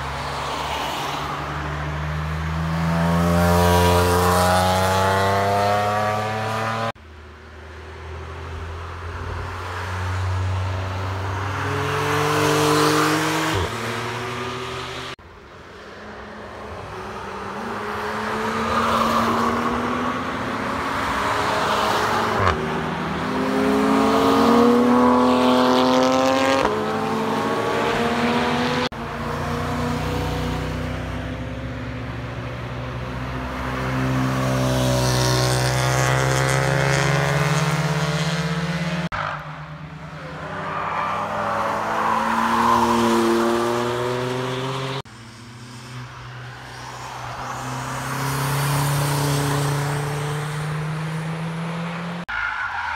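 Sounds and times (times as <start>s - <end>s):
sports cars passing at speed: 0.0s - 52.9s.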